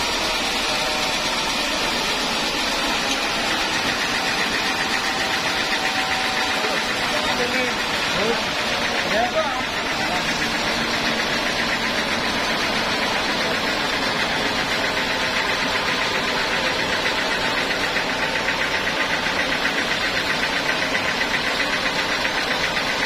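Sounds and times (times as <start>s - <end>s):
band saw machinery drone: 0.0s - 23.0s.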